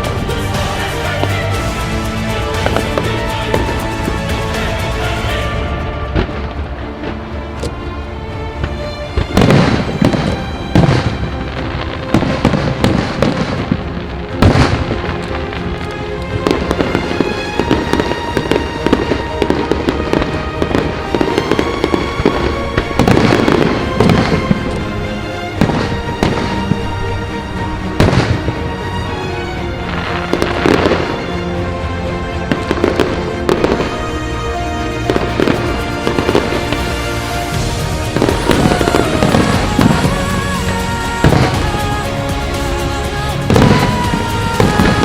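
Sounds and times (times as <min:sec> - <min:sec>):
fireworks bangs: 0:00.0 - 0:45.0
fireworks crackling: 0:00.0 - 0:45.0
music playing: 0:00.0 - 0:45.0.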